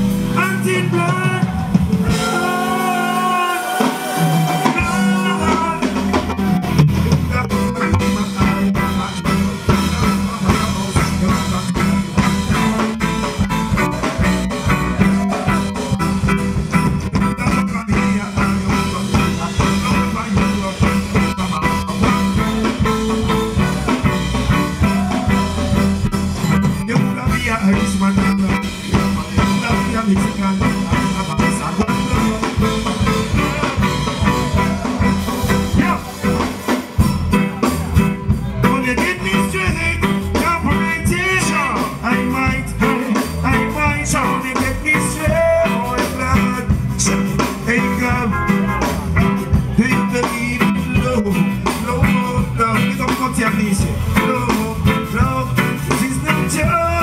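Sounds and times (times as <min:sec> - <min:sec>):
bass line: 0:00.0 - 0:57.0
drums: 0:00.0 - 0:57.0
reggae band music: 0:00.0 - 0:57.0
man singing through pa: 0:00.3 - 0:36.6, 0:37.7 - 0:57.0.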